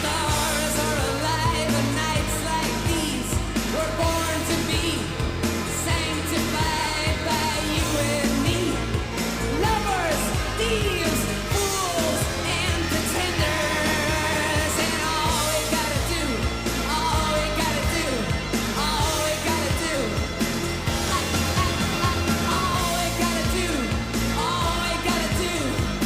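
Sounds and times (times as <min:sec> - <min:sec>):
new wave dance track with vocal: 0:00.0 - 0:26.0.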